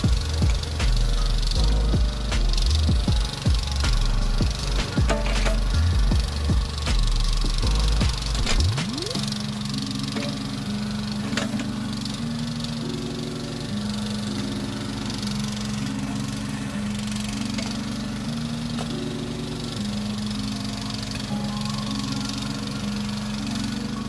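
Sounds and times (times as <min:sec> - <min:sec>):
backhoe engine running: 0:00.0 - 0:24.0
simple melody of held notes: 0:00.0 - 0:24.0.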